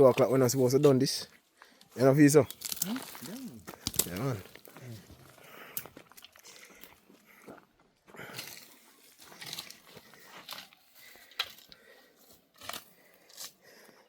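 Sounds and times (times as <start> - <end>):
crunching and scraping: 0.0 - 14.0.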